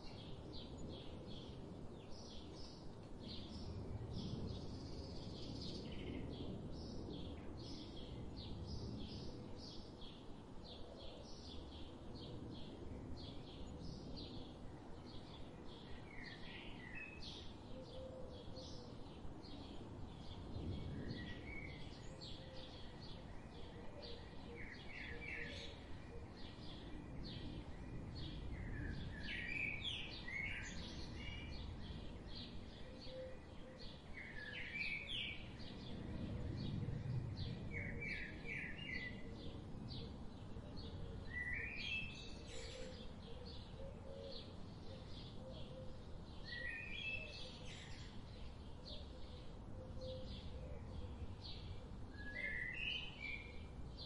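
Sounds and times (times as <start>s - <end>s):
songbird chirping phrase: 4.6s - 36.0s, 37.4s - 54.0s.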